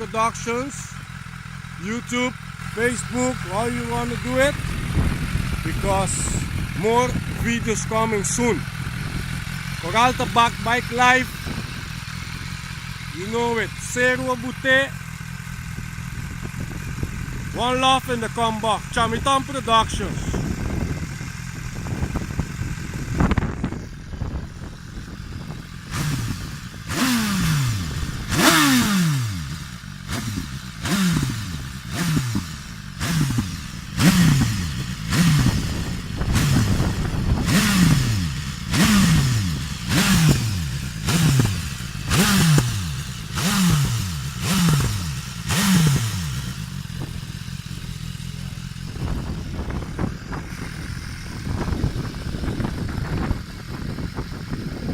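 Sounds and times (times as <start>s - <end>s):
motorcycle engine idling: 0.0s - 54.9s
motorcycle engine revving: 0.0s - 54.9s.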